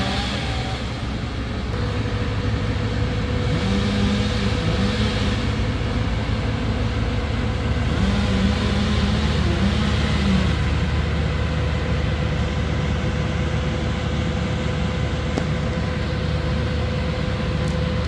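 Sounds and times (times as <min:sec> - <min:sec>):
engine whine: 0:00.0 - 0:18.0
large engine running steadily: 0:00.0 - 0:18.0.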